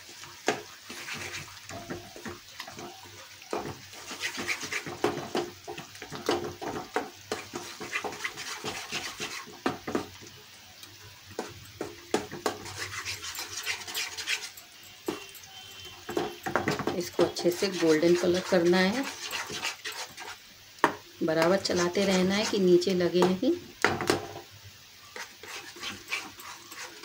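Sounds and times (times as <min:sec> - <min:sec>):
spatula scraping a pan: 0:00.2 - 0:10.1, 0:11.4 - 0:20.4, 0:21.4 - 0:23.4, 0:25.1 - 0:27.0.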